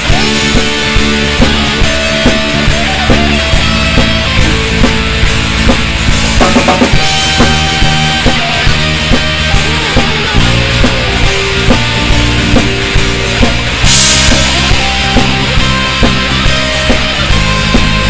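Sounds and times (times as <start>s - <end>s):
drum kit beat: 0.0s - 18.0s
rock band music: 0.0s - 18.0s.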